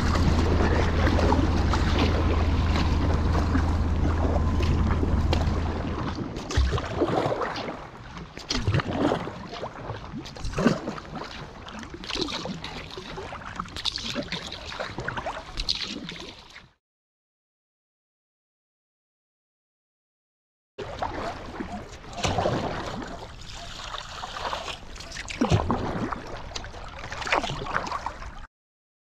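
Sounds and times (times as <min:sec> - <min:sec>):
paddle strokes splashing: 0:00.0 - 0:16.7, 0:20.8 - 0:28.5
choppy water rushing against hull: 0:00.0 - 0:16.8, 0:20.8 - 0:28.5.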